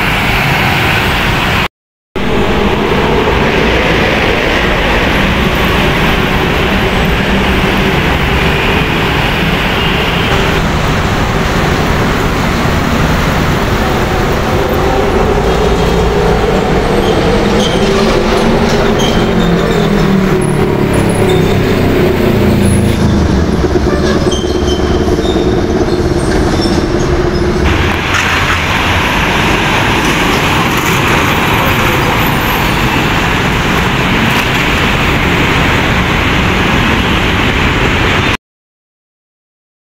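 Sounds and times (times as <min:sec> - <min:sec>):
road traffic hiss: 0:00.0 - 0:17.4, 0:18.1 - 0:38.4
diesel trucks passing: 0:00.0 - 0:38.4.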